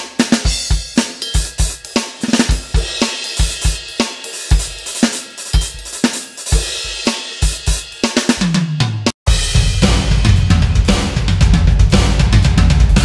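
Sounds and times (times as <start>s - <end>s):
electronic drum kit groove: 0.0s - 13.0s.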